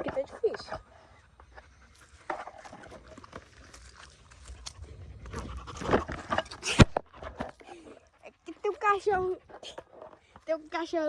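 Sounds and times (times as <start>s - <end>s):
dog licking and sniffing: 0.0s - 11.0s.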